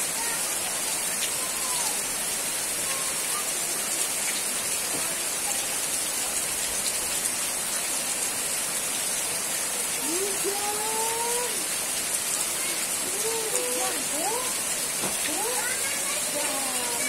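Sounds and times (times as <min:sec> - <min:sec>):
rain falling on plants: 0:00.0 - 0:17.0.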